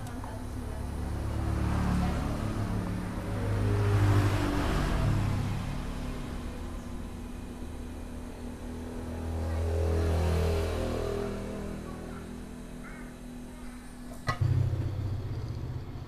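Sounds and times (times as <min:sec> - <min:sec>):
vehicle engine passing: 0:00.0 - 0:13.6, 0:14.3 - 0:16.0.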